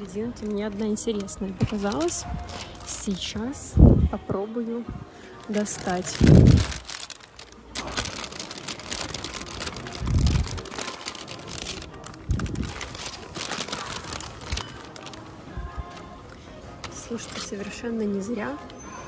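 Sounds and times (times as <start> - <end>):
cellophane crinkling and rustling: 0.0 - 3.6, 5.4 - 18.8.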